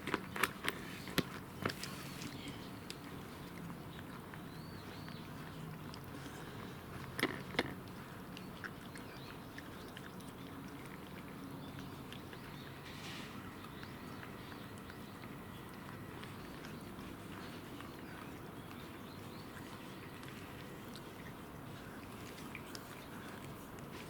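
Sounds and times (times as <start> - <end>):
cat chewing food: 0.0 - 24.0.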